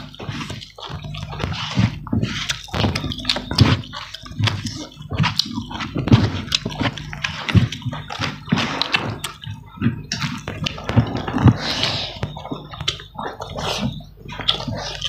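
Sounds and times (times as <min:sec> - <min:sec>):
chewing and lip smacking: 0:00.0 - 0:15.0
fingers squishing rice: 0:00.0 - 0:15.0.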